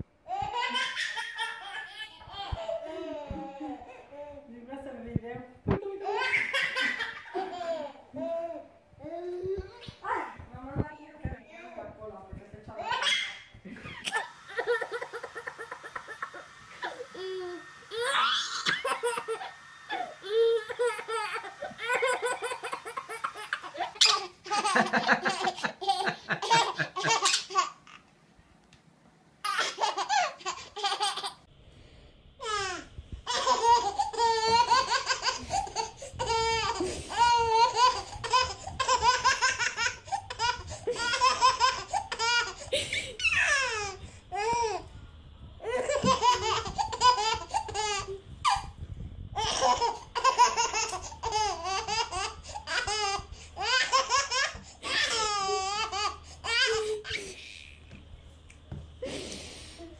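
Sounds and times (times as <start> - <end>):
baby laughing: 0.3 - 4.4, 6.0 - 8.6, 12.8 - 28.0, 29.4 - 31.5, 32.4 - 44.8, 45.6 - 48.7, 49.4 - 57.9.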